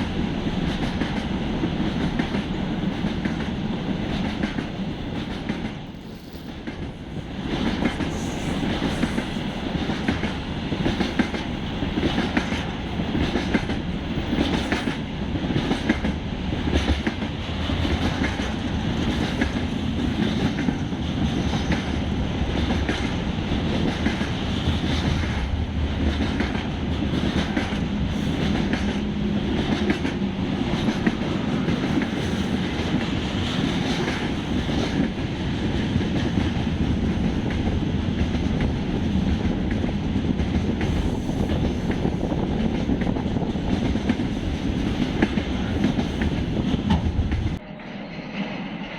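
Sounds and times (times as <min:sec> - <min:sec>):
train wheels clacking on rails: 0:00.0 - 0:47.6.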